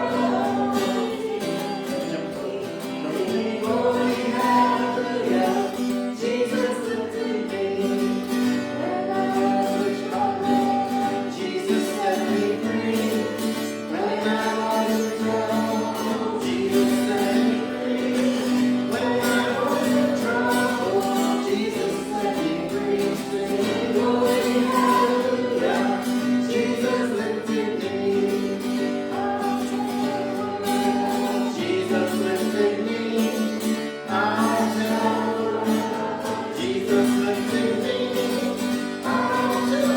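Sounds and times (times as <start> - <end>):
group singing a hymn: 0.0 - 39.9.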